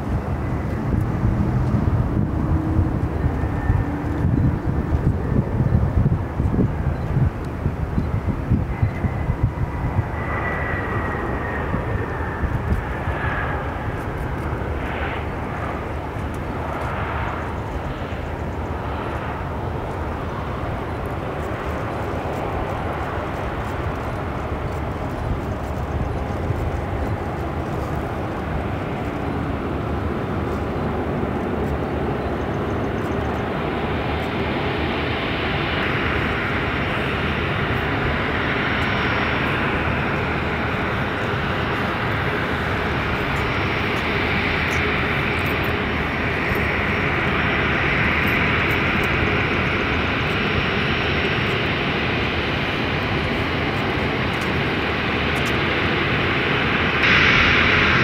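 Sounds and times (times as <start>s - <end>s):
jet engine rumble and hiss: 0.0s - 58.0s.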